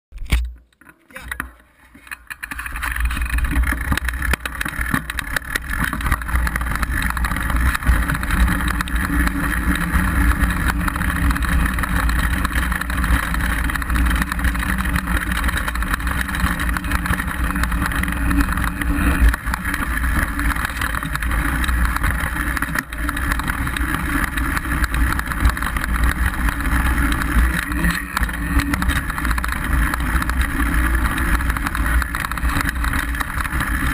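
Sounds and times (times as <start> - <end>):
bike tyres rolling over rocks: 0.9 - 33.9.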